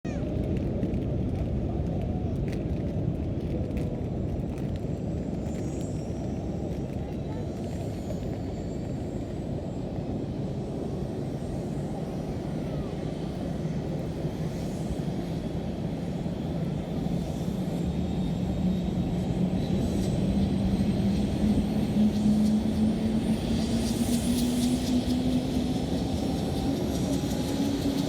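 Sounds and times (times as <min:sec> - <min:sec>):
helicopter engine and rotor rumble: 0:04.1 - 0:28.0.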